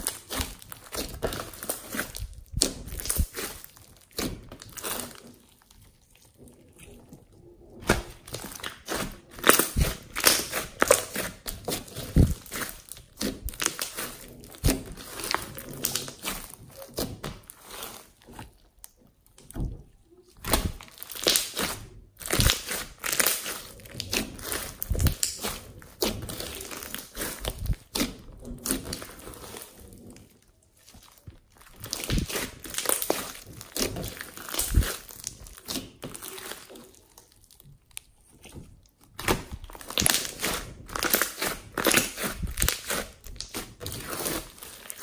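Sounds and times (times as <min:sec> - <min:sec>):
slime with foam beads squished by hand: 0:00.0 - 0:45.0.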